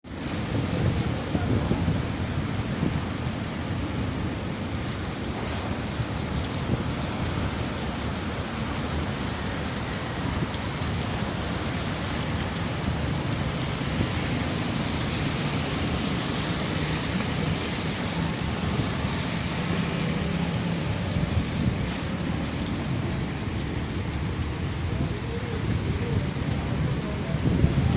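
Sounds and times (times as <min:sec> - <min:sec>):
rain pouring: 0:00.0 - 0:27.9
raindrops spattering: 0:00.1 - 0:27.9.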